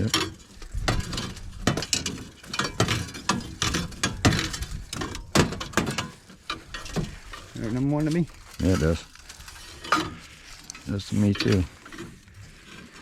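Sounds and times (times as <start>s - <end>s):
metal parts clinking and rattling: 0.0s - 13.0s.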